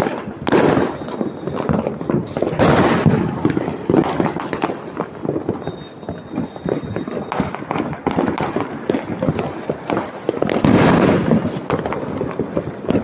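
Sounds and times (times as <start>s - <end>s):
firecrackers cracking: 0.0s - 13.0s
loud firework burst: 0.0s - 13.0s.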